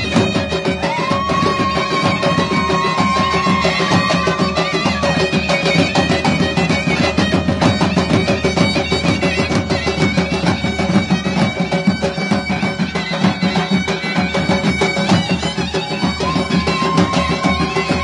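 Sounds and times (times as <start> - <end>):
drums beating fast rhythm: 0.0 - 18.0
frame drum: 0.0 - 18.0
zurnas playing dance melody: 0.0 - 18.0.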